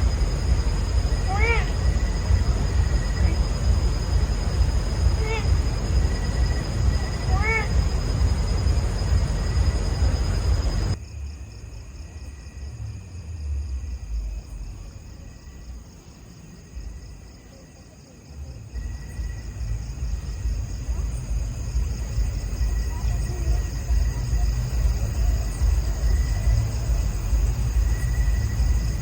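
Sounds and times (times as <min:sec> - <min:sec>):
low rumble: 0:00.0 - 0:17.4, 0:18.4 - 0:29.0
insects chirring: 0:00.0 - 0:29.0.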